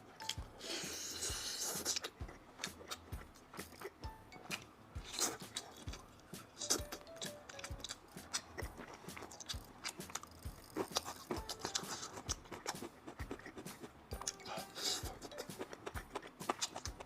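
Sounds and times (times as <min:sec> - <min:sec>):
biting and chewing: 0:00.2 - 0:17.0
crunchy mouth clicks: 0:01.2 - 0:06.0, 0:06.6 - 0:17.0.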